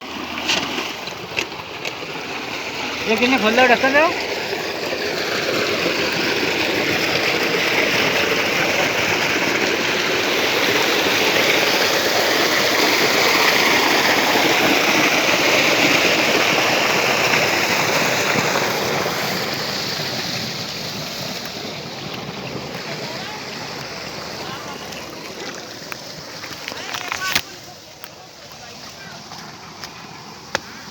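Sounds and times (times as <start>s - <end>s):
water rushing: 0.0s - 30.9s.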